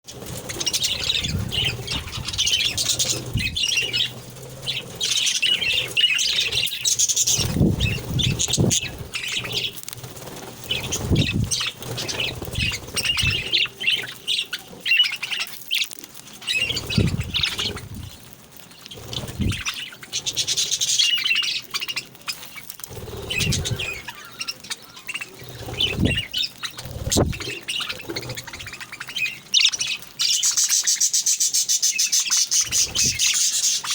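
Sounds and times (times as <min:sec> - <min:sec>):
small birds chirping and squawking: 0:00.0 - 0:33.9.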